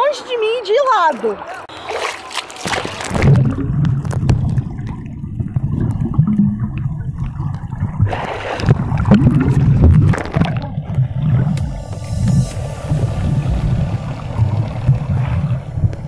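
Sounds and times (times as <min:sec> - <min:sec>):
water rush: 0:01.3 - 0:16.0
muffled underwater rumble: 0:03.0 - 0:16.0.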